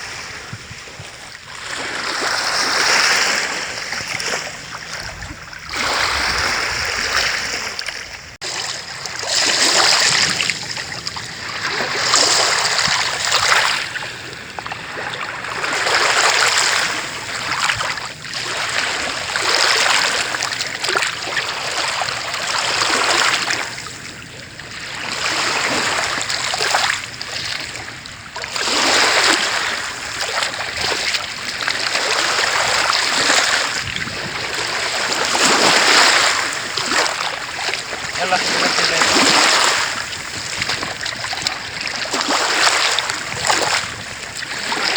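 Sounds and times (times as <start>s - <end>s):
small waves breaking on shore: 0.0s - 44.9s.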